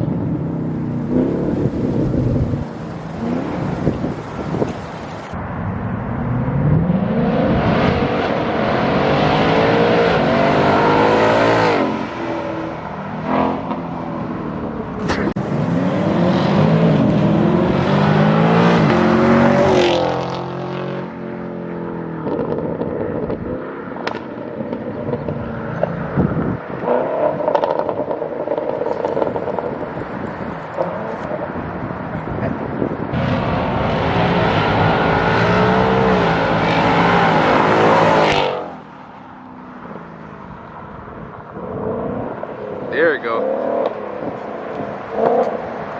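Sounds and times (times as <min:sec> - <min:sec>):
car exhaust accelerating: 0:00.0 - 0:20.6, 0:21.9 - 0:42.9.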